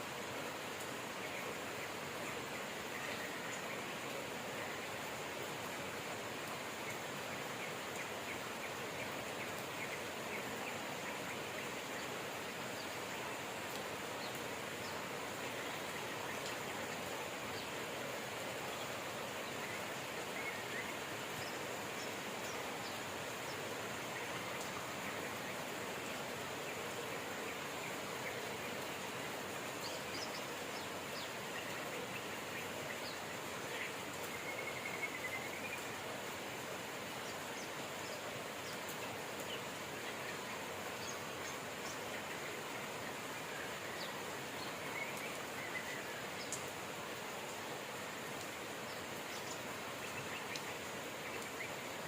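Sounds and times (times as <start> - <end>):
steady rain falling: 0.0 - 52.0
faint bird chirps: 0.2 - 52.0.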